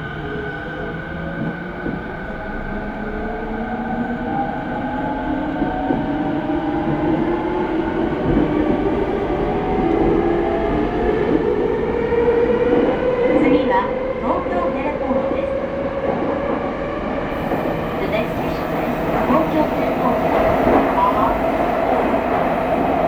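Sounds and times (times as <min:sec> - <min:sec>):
rumble of train wheels: 0:00.0 - 0:23.0.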